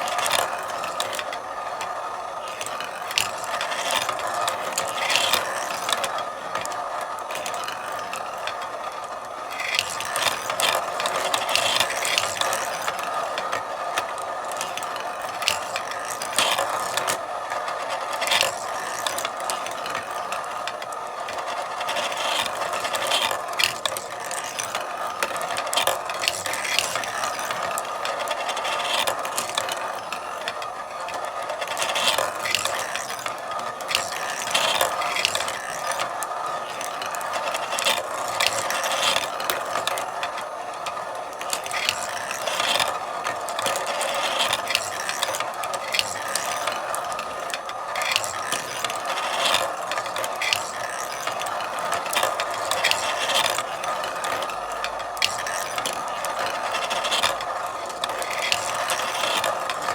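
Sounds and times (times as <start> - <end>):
marbles rolling and clacking: 0.0 - 59.9.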